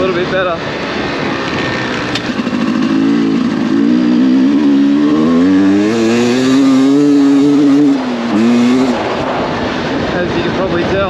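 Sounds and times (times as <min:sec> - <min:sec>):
dirt bike engine revving: 0:00.8 - 0:10.2.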